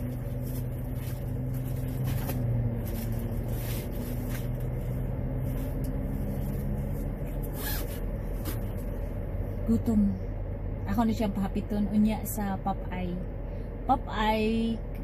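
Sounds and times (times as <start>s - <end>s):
car idling: 0.0s - 13.7s.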